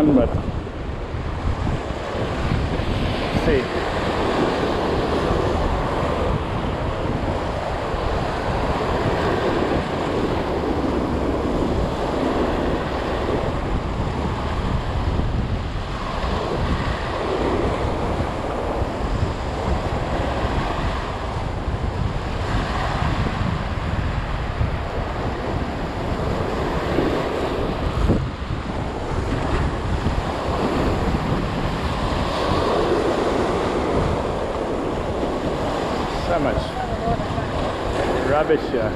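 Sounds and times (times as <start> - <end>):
sea surf breaking on rocks: 0.0 - 38.9
wind buffeting microphone: 0.0 - 38.9.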